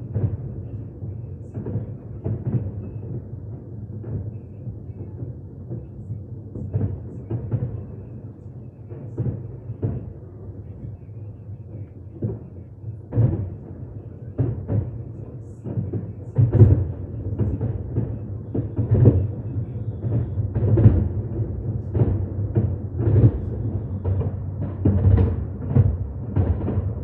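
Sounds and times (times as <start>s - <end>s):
fireworks bursting with deep booms: 0.0s - 27.0s.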